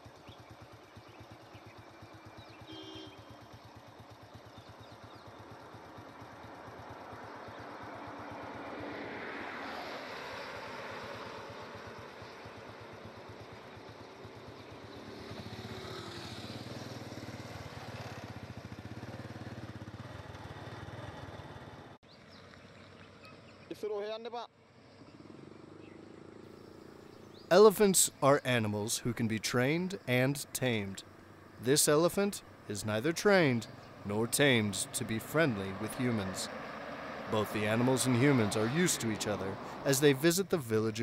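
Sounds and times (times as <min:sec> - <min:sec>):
vehicle engine idling: 0:00.0 - 0:08.8, 0:11.4 - 0:23.6, 0:24.7 - 0:41.0
road traffic passing: 0:00.0 - 0:41.0.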